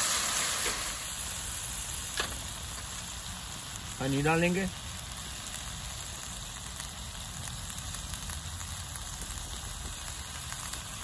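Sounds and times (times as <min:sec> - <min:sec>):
sauce sizzling in a hot pan: 0:00.0 - 0:11.0.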